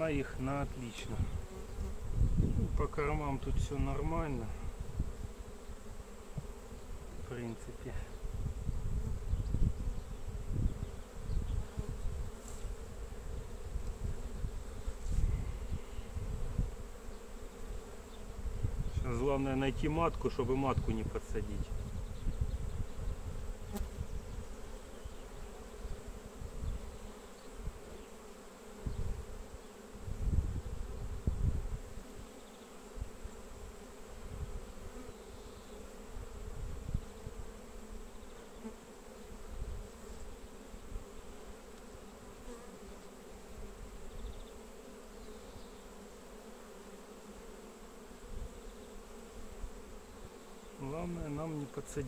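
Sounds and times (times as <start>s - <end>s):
bees humming: 0.0s - 52.0s.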